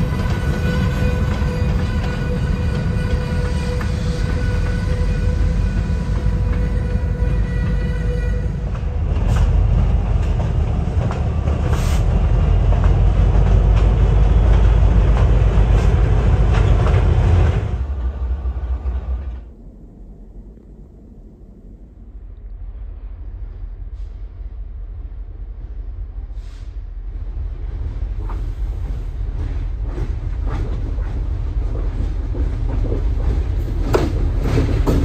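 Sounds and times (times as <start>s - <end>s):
freight train rumbling: 0.0s - 35.0s.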